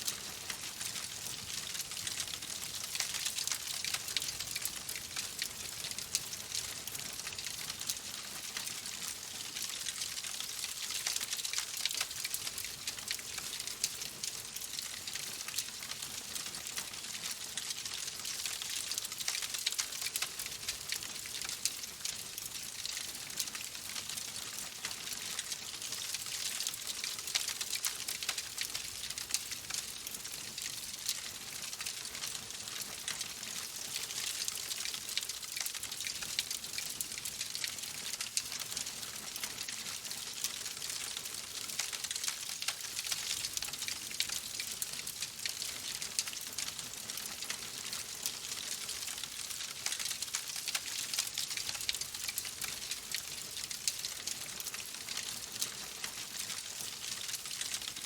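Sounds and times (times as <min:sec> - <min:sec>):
wood fire crackling: 0:00.0 - 0:22.1, 0:24.4 - 0:30.4, 0:31.0 - 0:58.0
constant hiss: 0:00.0 - 0:58.0.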